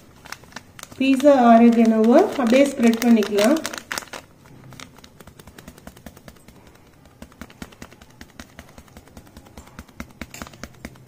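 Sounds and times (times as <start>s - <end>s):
dried herbs sprinkling ticks: 0.0s - 11.0s.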